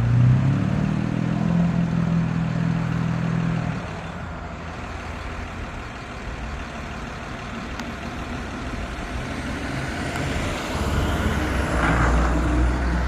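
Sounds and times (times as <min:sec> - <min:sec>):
bus engine and tyre noise: 0:00.0 - 0:13.0.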